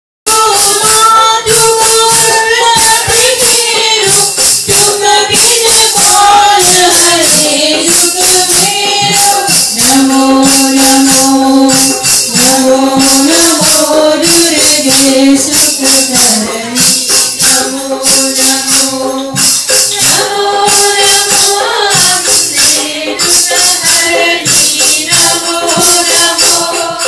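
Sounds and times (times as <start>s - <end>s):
jingling hand percussion: 0.3s - 27.0s.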